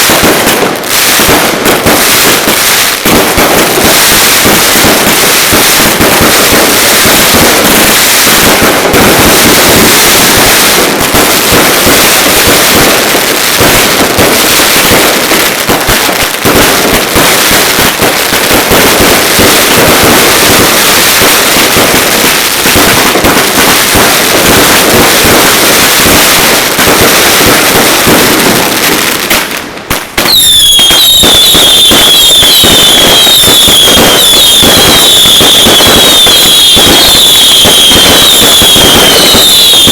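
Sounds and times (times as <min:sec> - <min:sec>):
firecracker bangs and crackling: 0:00.0 - 0:39.9
shrill firework whistle: 0:00.0 - 0:39.9.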